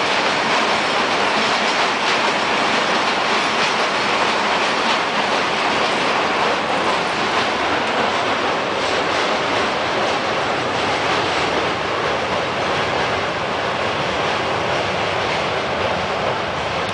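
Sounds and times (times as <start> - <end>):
train wheels rumbling on bridge: 0.0 - 16.9.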